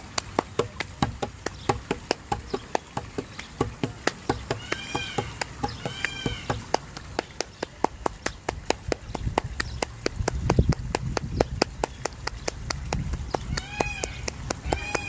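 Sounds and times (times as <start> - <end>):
rapid even clicking: 0.0 - 15.0.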